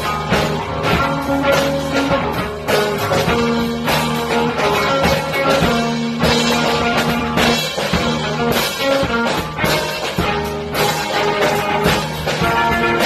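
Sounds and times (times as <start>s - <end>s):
drum and cymbal hits: 0.0s - 13.0s
electric guitar held notes: 0.0s - 13.0s.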